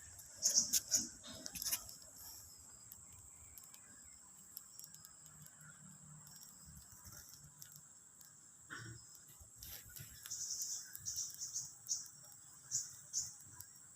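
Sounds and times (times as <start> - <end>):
insect chirring: 0.0 - 13.9.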